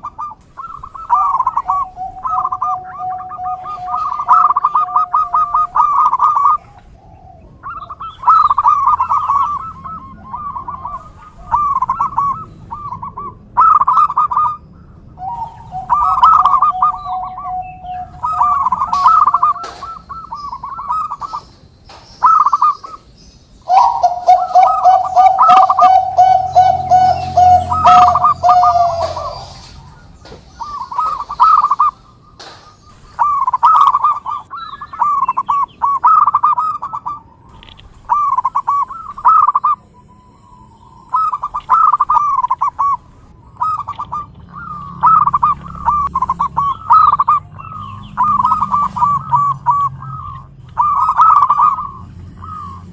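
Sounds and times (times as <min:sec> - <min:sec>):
dove cooing: 0:00.0 - 0:21.5, 0:22.2 - 0:23.0, 0:23.6 - 0:32.3, 0:33.2 - 0:52.9.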